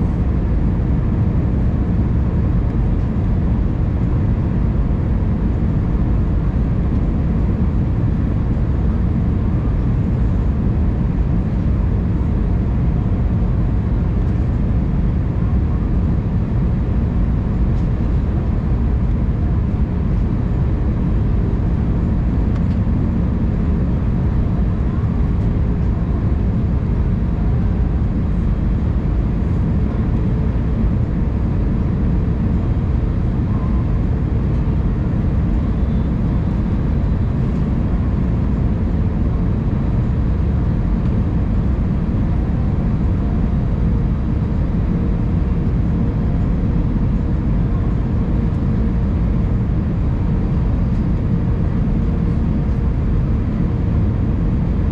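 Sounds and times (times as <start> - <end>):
faint steady hum: 0.0 - 54.9
jet engine and airflow rumble: 0.0 - 54.9.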